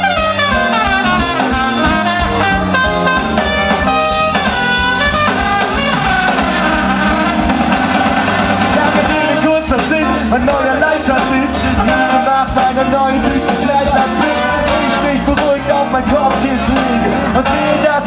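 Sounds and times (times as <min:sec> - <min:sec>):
bass: 0:00.0 - 0:18.0
drums: 0:00.0 - 0:18.0
horn section playing: 0:00.0 - 0:18.0.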